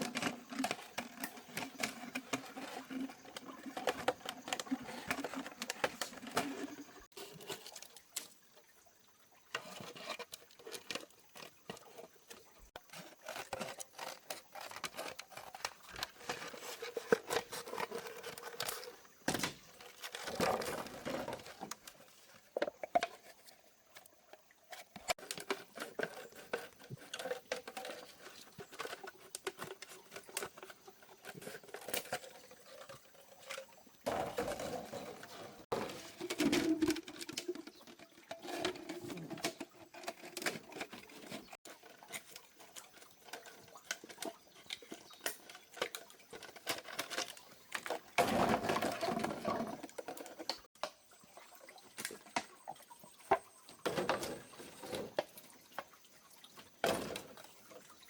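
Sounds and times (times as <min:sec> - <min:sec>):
plastic bottles being handled: 0:00.0 - 0:08.4, 0:09.5 - 0:58.0.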